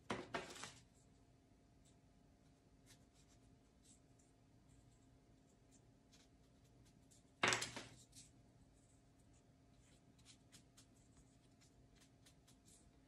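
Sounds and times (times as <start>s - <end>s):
paintbrush scratching and dabbing: 1.8s - 13.0s.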